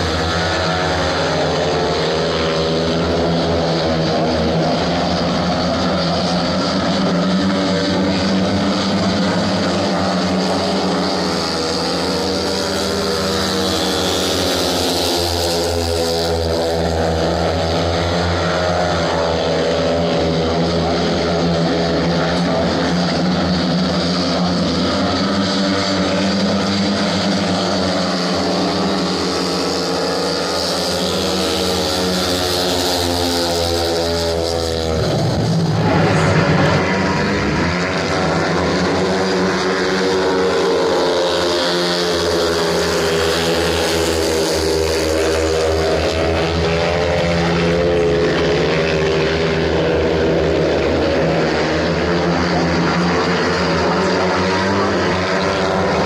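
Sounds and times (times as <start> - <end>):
motorcycles racing: 0.0 - 56.0.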